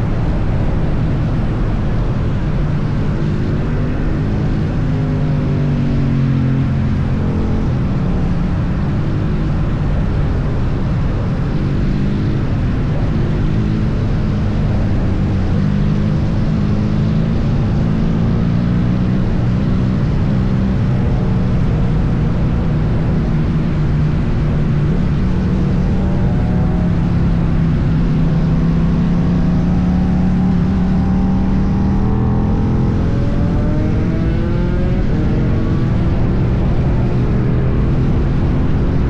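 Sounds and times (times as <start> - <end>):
motorcycle engine cruising: 0.0 - 39.0
wind and road noise: 0.0 - 39.0.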